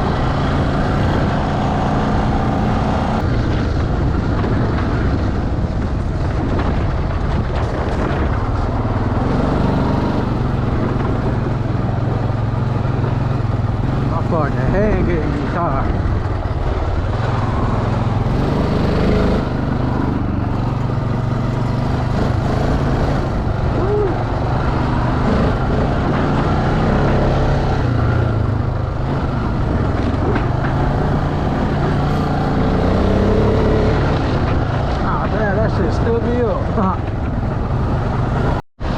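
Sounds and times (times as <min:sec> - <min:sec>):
motorcycle engine running: 0:00.0 - 0:38.6.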